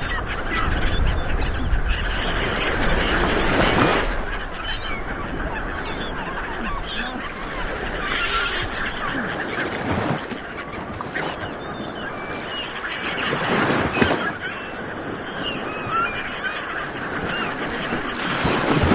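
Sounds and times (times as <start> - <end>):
bird calls: 0.0 - 18.9
ocean waves washing on shore: 0.0 - 18.9.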